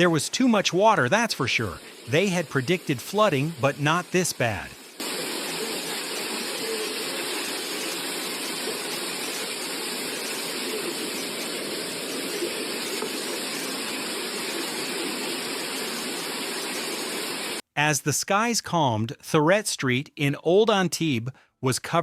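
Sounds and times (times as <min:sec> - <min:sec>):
water rushing: 0:00.0 - 0:17.6.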